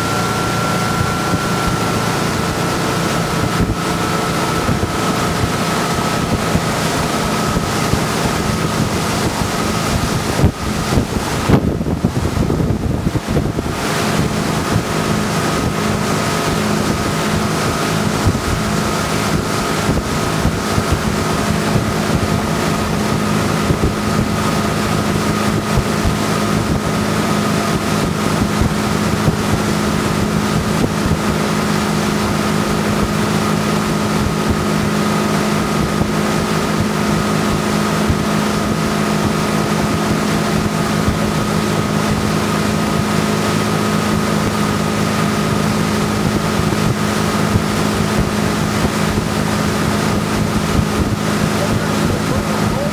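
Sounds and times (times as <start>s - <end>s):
boat engine humming: 0.0s - 52.9s
rush of the wake: 0.0s - 52.9s
wind buffeting microphone: 0.0s - 52.9s.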